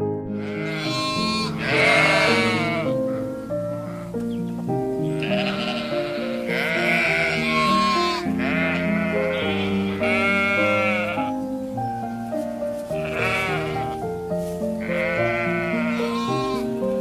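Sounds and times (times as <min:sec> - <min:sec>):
background music with held notes: 0:00.0 - 0:17.0
animal bleating: 0:00.4 - 0:04.3, 0:05.0 - 0:11.4, 0:12.9 - 0:14.2, 0:14.8 - 0:17.0.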